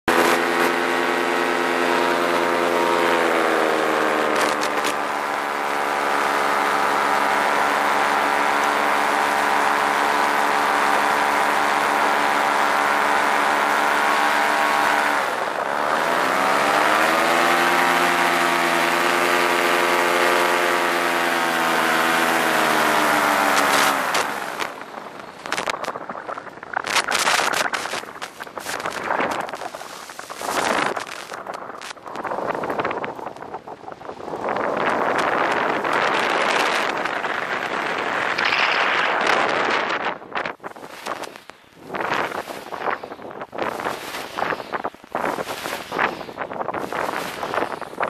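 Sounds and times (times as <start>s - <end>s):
paramotor engine and propeller: 0.0s - 48.0s.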